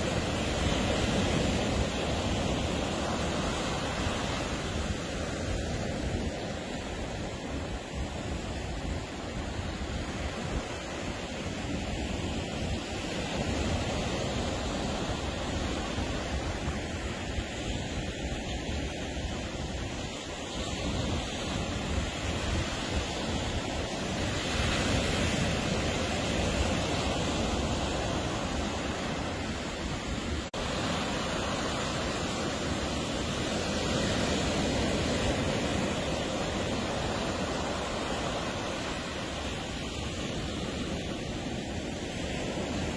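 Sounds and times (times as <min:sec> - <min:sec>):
waves breaking on beach: 0:00.0 - 0:42.9.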